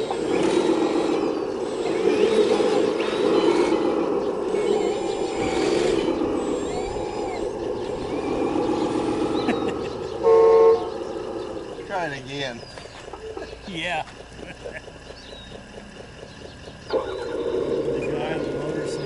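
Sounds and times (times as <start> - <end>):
excavator engine under load: 0.0 - 19.0
faint whine: 0.0 - 19.0.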